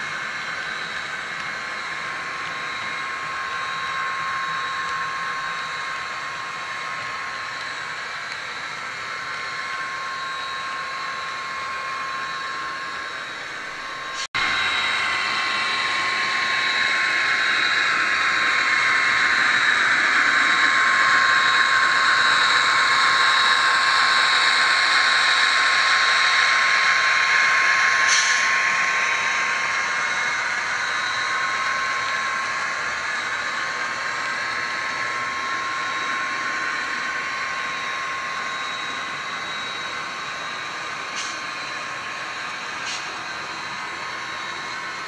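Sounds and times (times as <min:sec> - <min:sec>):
model train motor whine: 0:00.0 - 0:45.0.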